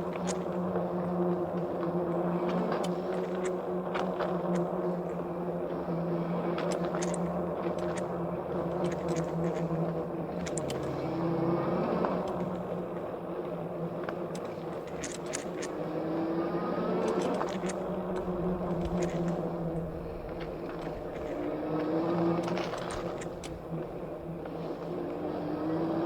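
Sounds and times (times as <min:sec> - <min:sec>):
bike clicks and rattles: 0:00.0 - 0:01.1, 0:02.3 - 0:05.3, 0:06.6 - 0:12.8, 0:14.0 - 0:25.1
tyre and ride noise: 0:00.0 - 0:26.0.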